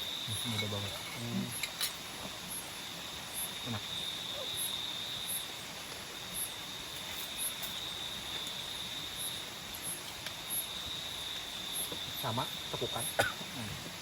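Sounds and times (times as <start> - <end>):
insects trilling: 0.0 - 14.0
very high insect chirps: 0.0 - 14.0.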